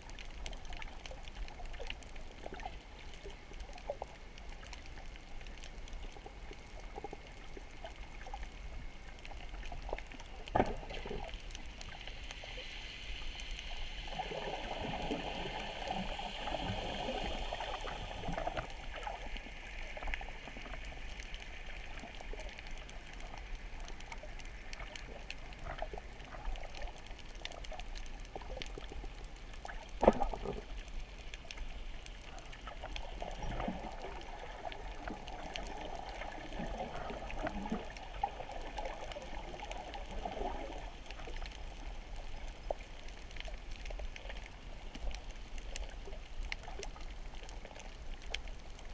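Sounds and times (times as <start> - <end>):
fine crackling clicks: 0.0 - 12.6, 17.6 - 48.9
underwater water rush: 0.0 - 48.9.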